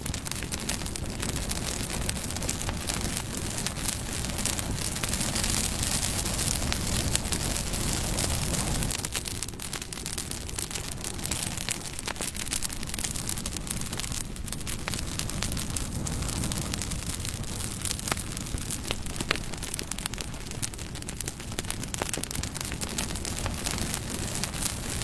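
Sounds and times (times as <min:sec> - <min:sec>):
bonfire flames rushing: 0:00.0 - 0:25.0
fire crackling and popping: 0:00.0 - 0:25.0.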